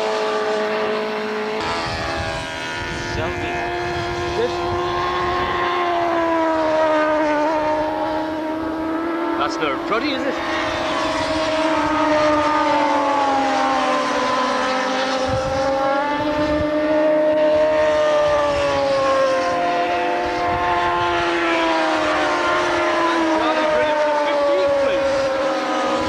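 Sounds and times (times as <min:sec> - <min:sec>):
racing motorcycles passing: 0:00.0 - 0:26.0.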